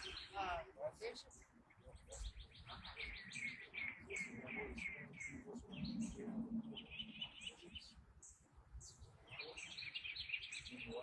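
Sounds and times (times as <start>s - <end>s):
bird chirping and trilling: 1.2s - 11.0s.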